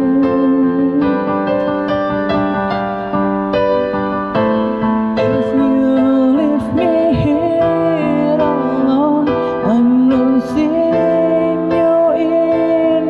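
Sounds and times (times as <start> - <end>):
keyboard playing slow chords: 0.0 - 13.0.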